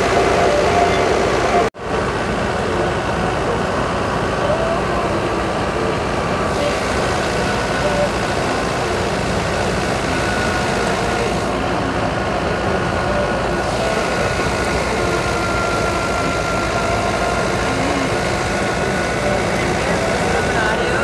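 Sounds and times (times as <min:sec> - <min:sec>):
thin steady whine: 0:00.0 - 0:21.0
thresher engine and machine din: 0:00.0 - 0:21.0.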